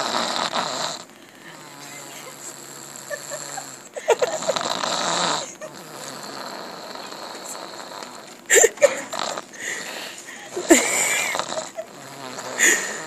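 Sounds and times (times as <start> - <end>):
loud rasping snoring: 0.0 - 13.0.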